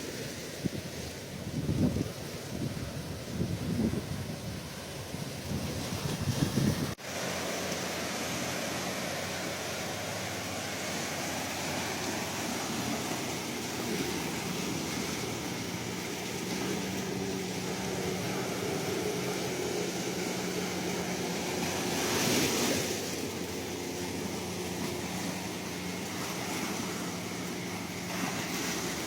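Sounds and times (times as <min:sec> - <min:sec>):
ocean waves washing on shore: 0:00.0 - 0:29.0.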